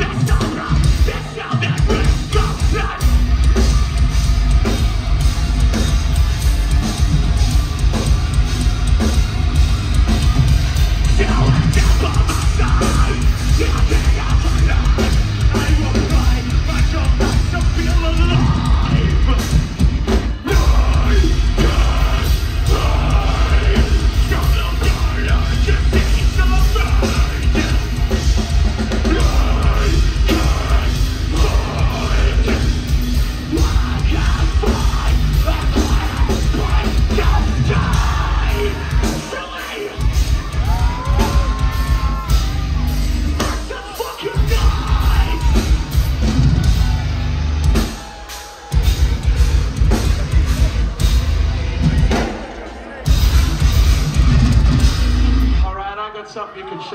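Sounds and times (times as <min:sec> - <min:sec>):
metal band playing live: 0:00.0 - 0:56.2.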